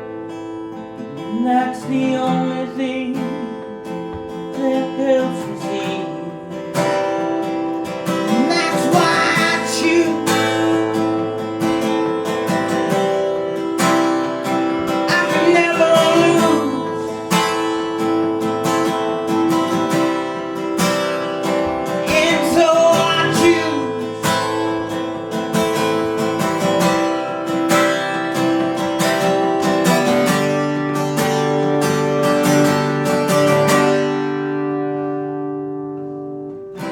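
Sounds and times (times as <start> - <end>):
acoustic guitar strumming chords: 0.0 - 36.9.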